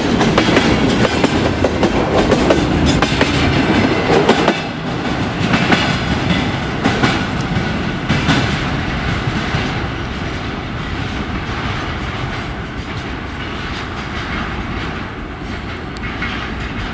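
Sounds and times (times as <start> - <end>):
train rumble: 0.0 - 16.9
train wheels clattering on rails: 0.0 - 16.9.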